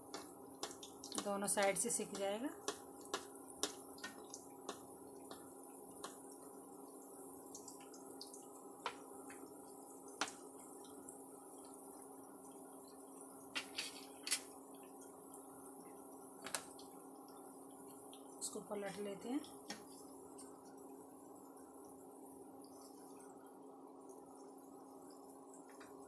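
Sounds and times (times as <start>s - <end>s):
induction cooktop hum: 0.0s - 26.0s.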